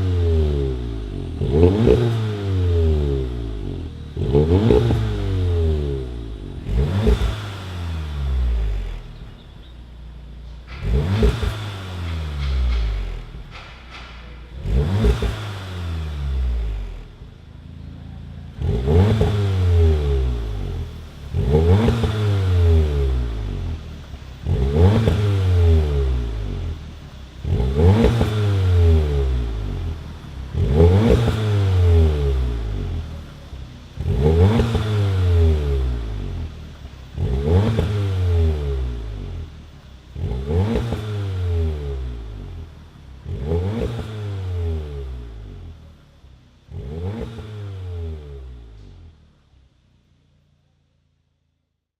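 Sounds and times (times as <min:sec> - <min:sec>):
exhaust pops: 0:00.0 - 0:49.2
car engine revving: 0:00.0 - 0:49.8.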